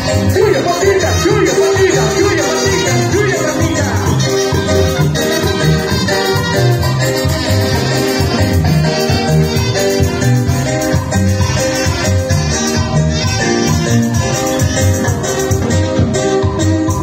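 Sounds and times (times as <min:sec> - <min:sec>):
latin dance music by band: 0:00.0 - 0:17.0.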